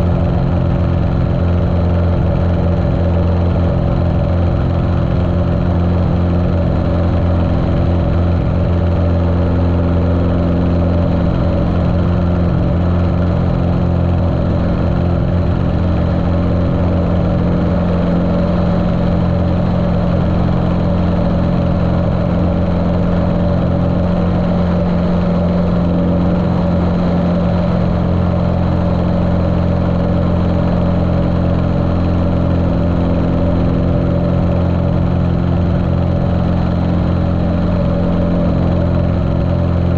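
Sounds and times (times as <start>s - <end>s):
muffled aircraft engine running: 0.0s - 39.9s.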